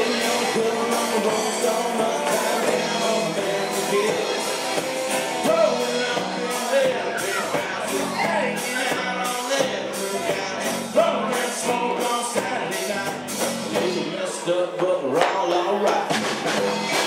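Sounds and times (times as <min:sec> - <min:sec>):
man singing: 0:00.0 - 0:16.3
country-rock band playing: 0:00.0 - 0:17.0.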